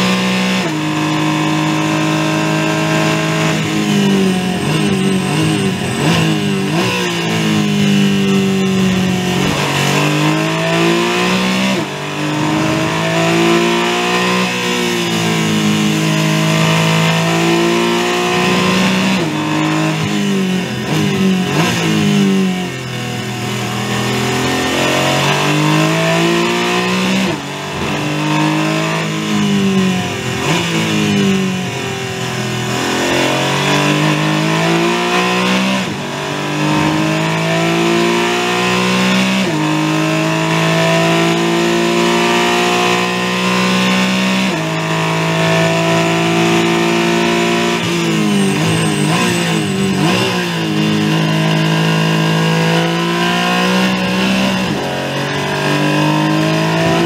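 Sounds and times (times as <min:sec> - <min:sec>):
racing car engine revving: 0:00.0 - 0:57.0
tyre and road noise: 0:00.3 - 0:43.1, 0:44.0 - 0:57.0.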